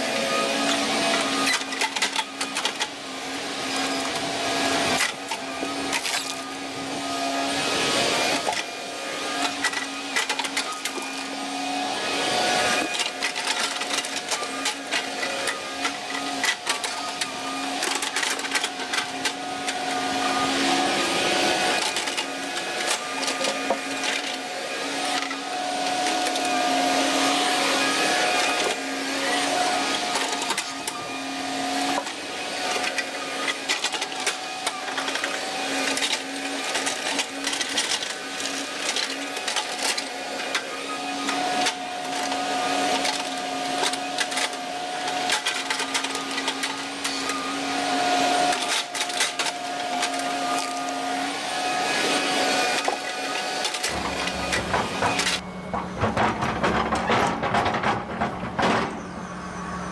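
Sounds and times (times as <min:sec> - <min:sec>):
excavator engine and hydraulics whining: 0:00.0 - 0:59.9.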